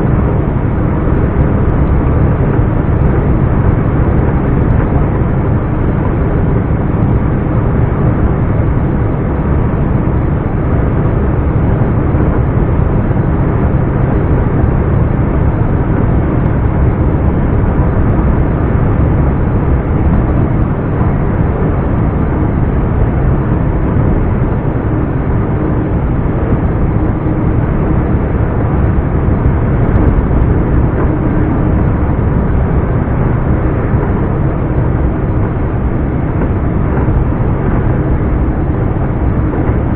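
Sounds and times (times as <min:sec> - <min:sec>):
diesel truck engine driving: 0:00.0 - 0:39.9.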